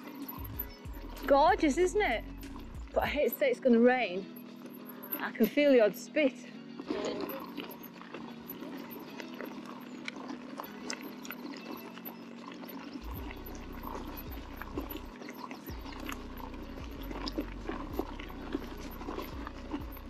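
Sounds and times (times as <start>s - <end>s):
stones clicking and bike rattling: 0.0s - 6.0s, 7.0s - 20.0s.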